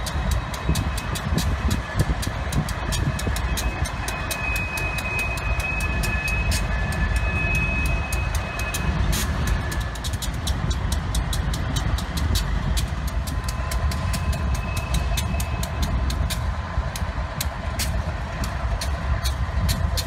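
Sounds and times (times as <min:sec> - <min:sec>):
diesel locomotives rumbling: 0:00.0 - 0:20.0
quick regular clicking: 0:00.0 - 0:20.0.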